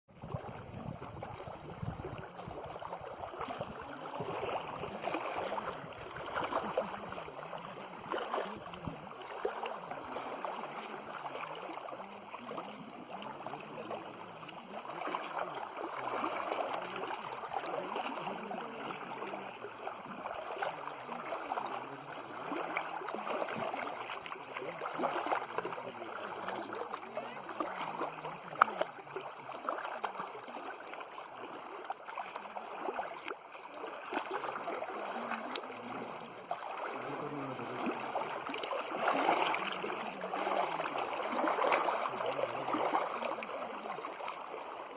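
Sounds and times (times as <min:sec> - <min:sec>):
lake water lapping: 0:00.1 - 0:44.9
small water splashes: 0:00.1 - 0:44.9.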